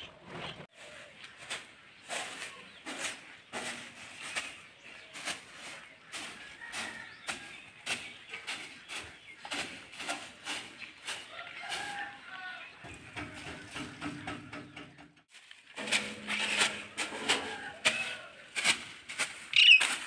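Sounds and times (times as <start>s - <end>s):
broom sweeping over metal: 0.7s - 20.0s.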